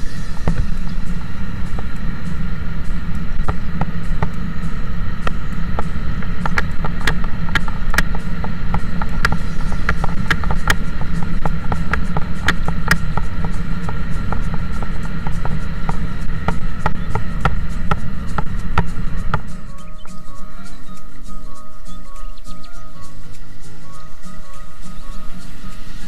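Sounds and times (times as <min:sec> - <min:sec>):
motorcycle engine rumble: 0:00.0 - 0:21.4.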